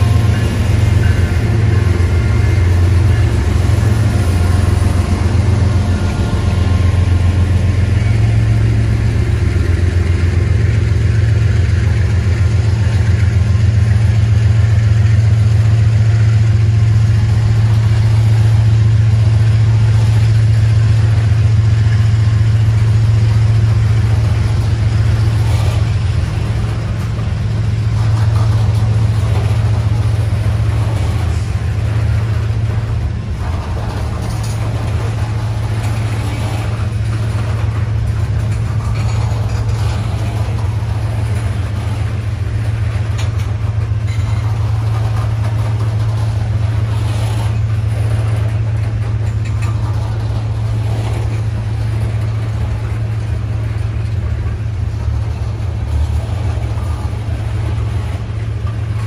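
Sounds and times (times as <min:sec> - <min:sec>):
locomotive engine drone: 0:00.0 - 0:59.0.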